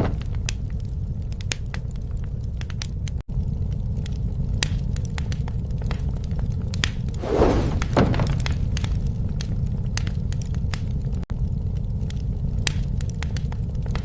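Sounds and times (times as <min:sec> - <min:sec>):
bonfire crackling and popping: 0:00.0 - 0:14.0
low rumble of fire: 0:00.0 - 0:14.0.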